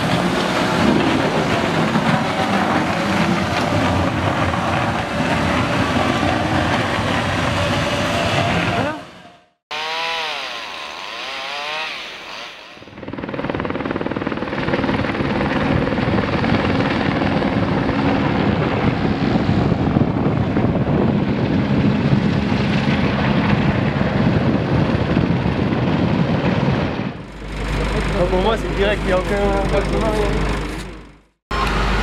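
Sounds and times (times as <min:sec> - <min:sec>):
helicopter rotor chop: 0:00.0 - 0:32.0.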